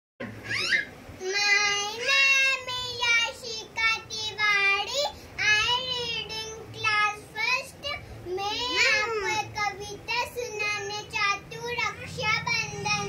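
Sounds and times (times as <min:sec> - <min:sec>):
young girl singing: 0:01.2 - 0:13.0.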